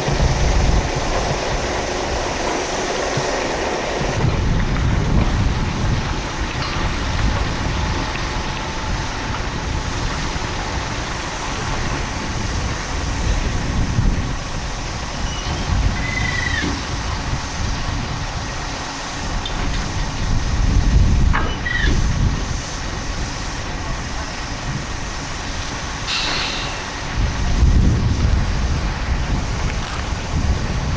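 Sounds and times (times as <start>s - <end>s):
large vehicle rumble: 0.0s - 30.9s
wind buffeting microphone: 0.0s - 30.9s.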